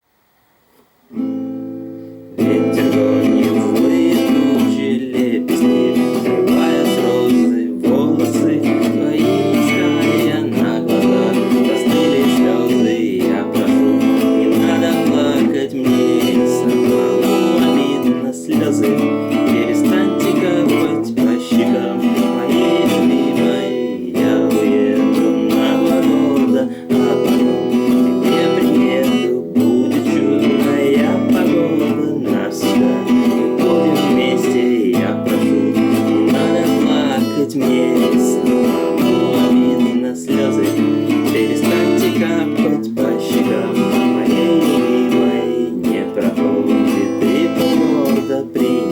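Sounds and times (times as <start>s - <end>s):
acoustic guitar strumming: 0.1s - 48.9s.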